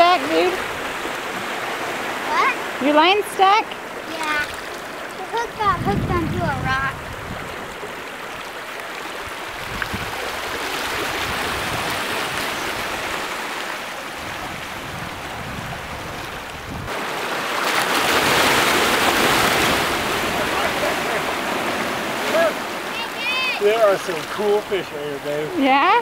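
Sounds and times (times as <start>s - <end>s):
waves and lapping sea water: 0.0s - 26.0s.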